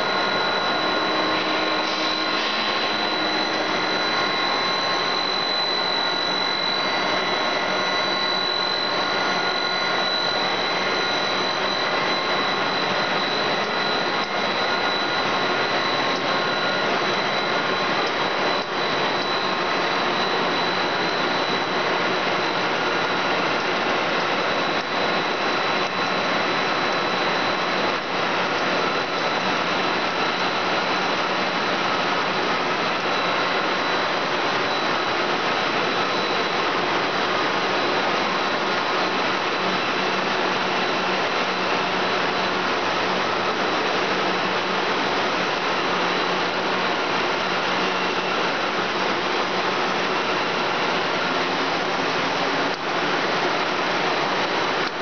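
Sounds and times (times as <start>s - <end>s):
axial fans blowing: 0.0s - 55.0s
extruder machine noise: 0.0s - 55.0s
high machine whine: 0.0s - 55.0s.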